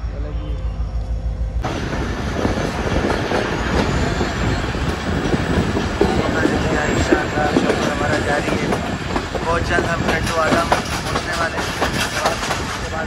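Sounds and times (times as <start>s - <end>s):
train rumble and rushing: 0.0s - 13.0s
wheels clacking over rail joints: 2.4s - 13.0s.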